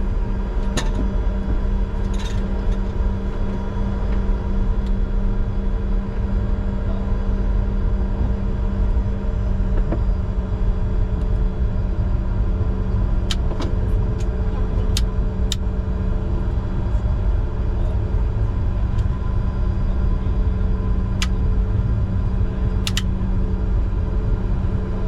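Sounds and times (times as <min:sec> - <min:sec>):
jet cockpit rumble and hum: 0:00.0 - 0:25.0.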